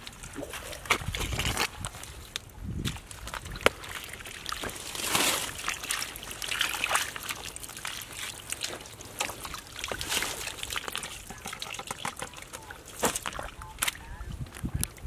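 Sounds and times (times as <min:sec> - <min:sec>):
mud and water squelching: 0:00.0 - 0:15.0
water trickling: 0:00.0 - 0:15.0.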